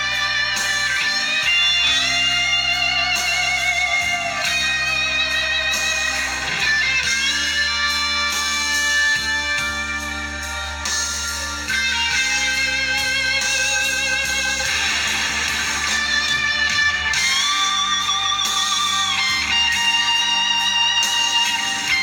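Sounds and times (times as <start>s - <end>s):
guitar-led rock music: 0.0s - 22.0s.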